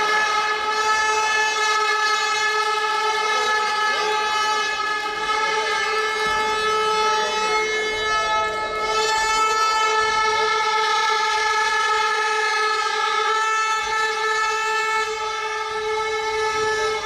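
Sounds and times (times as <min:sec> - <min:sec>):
steady horn-like tone: 0:00.0 - 0:17.0.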